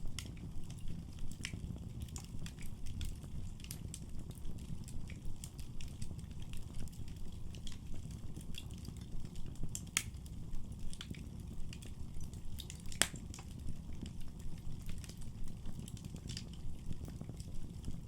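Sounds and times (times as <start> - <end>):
fire crackling and popping: 0.0 - 18.0
rumble of fire flames: 0.0 - 18.0.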